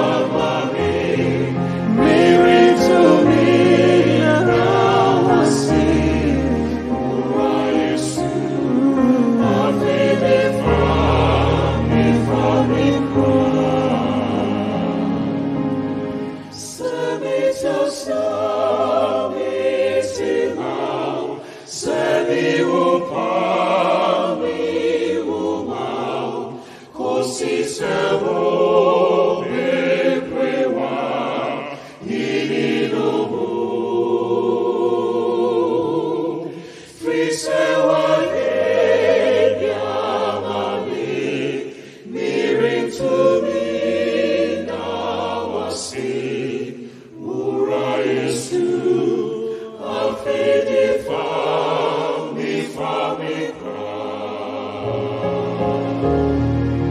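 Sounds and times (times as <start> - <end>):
gospel group singing in harmony: 0.0 - 56.9.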